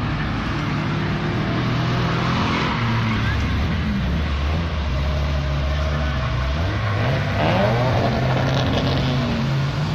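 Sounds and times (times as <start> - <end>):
car engine accelerating: 0.4 - 9.9.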